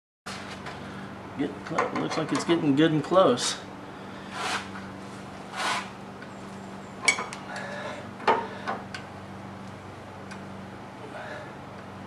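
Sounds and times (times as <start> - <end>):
low electrical hum: 0.3 - 12.0.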